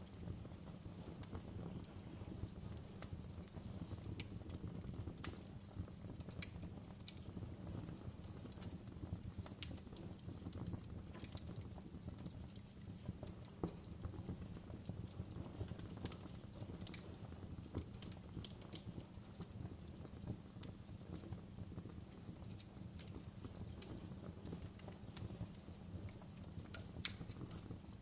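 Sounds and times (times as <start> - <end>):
fire crackles and pops: 0.0 - 28.0
wood fire rumbling: 0.0 - 28.0.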